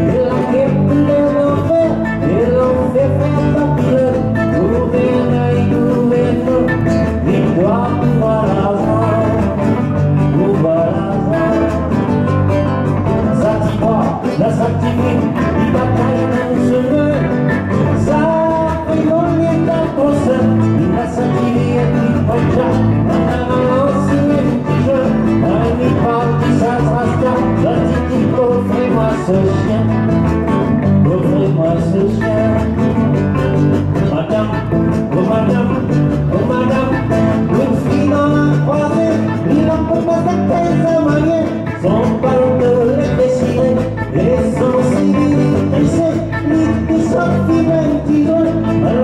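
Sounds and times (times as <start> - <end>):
live electric guitar band: 0.0 - 49.0.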